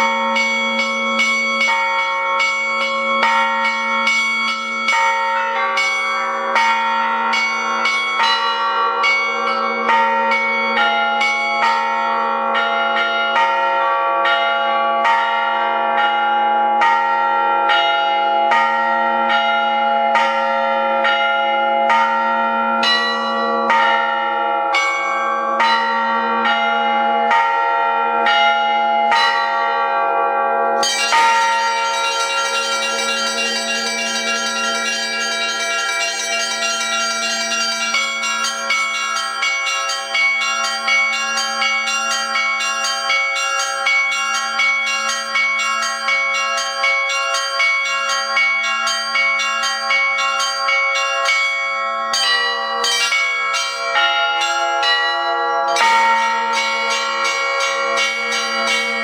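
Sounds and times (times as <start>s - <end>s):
hand bells ringing: 0.0s - 16.2s, 16.8s - 27.6s, 30.8s - 59.0s.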